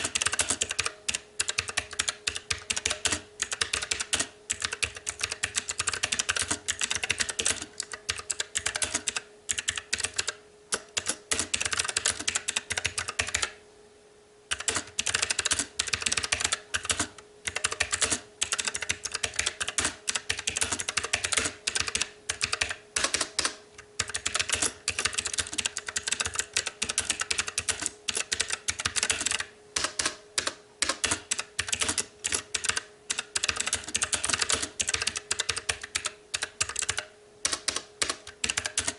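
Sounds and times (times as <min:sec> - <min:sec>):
mechanical keyboard typing: 0:00.0 - 0:13.6, 0:14.5 - 0:38.9.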